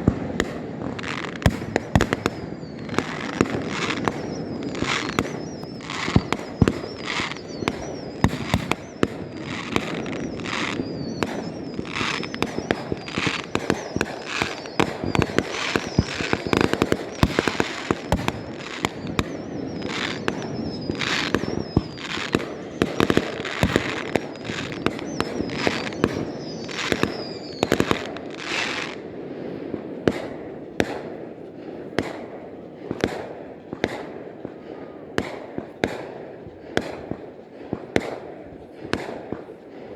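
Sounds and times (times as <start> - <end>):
firework bangs and crackling: 0.0 - 39.9
whistling firework shells: 0.0 - 39.9.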